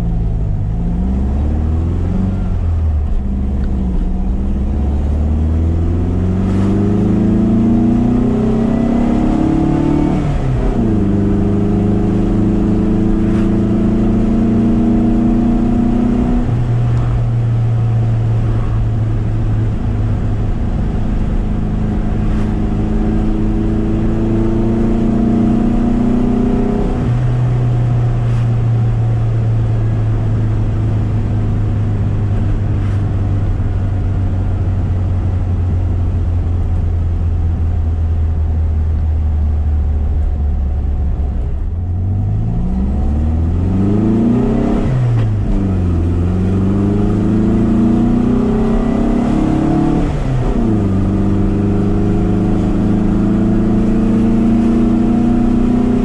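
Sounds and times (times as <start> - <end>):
car engine accelerating and cruising: 0.0 - 56.0.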